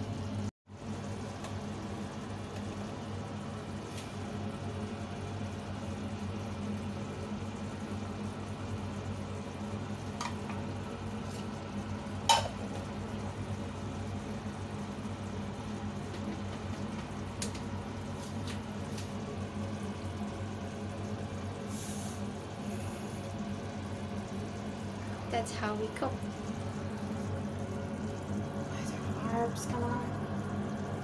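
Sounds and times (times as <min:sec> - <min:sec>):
sauce simmering and bubbling: 0:00.7 - 0:25.3, 0:26.1 - 0:29.2, 0:30.0 - 0:31.0.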